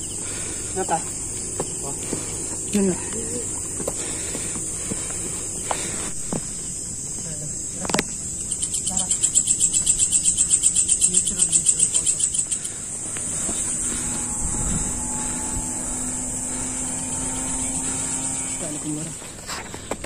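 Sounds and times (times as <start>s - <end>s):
faint low hum: 0.0s - 19.4s
insects chirping and trilling: 0.0s - 20.0s.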